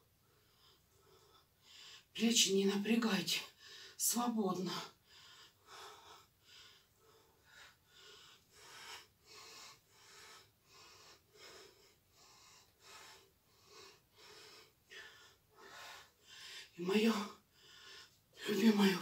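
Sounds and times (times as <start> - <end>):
woman breathing rhythmically: 0.0 - 2.2, 3.4 - 4.1, 4.7 - 19.0.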